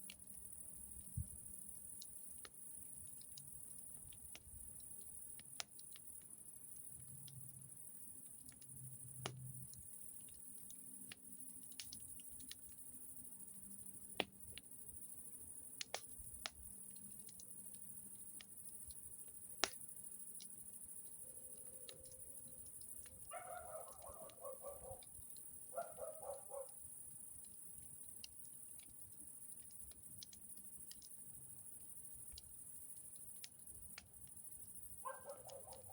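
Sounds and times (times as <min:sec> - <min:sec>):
campfire crackling: 0:00.0 - 0:35.9.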